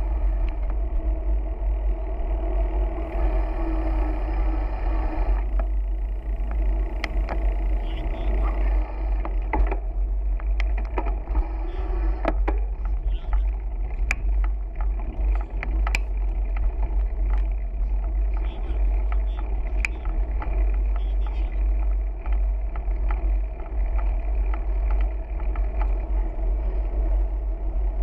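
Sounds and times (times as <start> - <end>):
bicycle clicks and rattles: 0.0 - 4.6, 5.3 - 28.0
wind buffeting microphone: 0.0 - 28.0.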